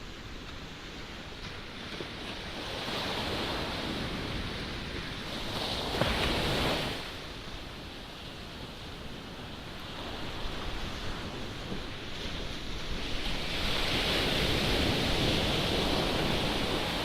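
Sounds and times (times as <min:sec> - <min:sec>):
waves breaking on beach: 0:00.0 - 0:17.0
wind buffeting microphone: 0:00.0 - 0:17.0.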